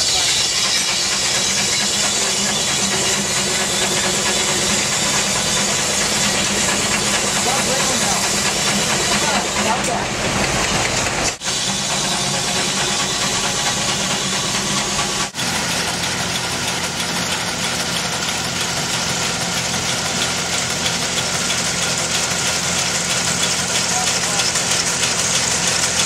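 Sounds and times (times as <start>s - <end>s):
engine-driven machinery running: 0.0s - 26.0s.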